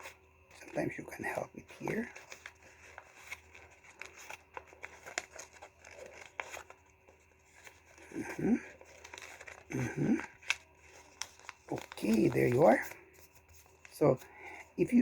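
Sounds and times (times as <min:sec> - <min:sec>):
paper crinkling: 0:00.0 - 0:15.0.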